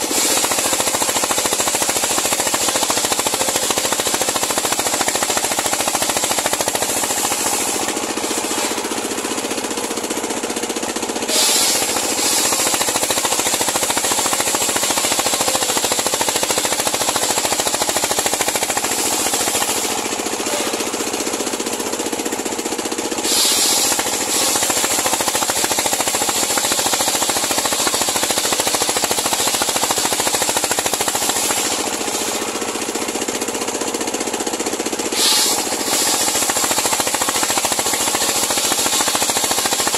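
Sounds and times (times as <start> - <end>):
engine rattling: 0.0 - 39.9
saw blade cutting log: 0.0 - 39.9.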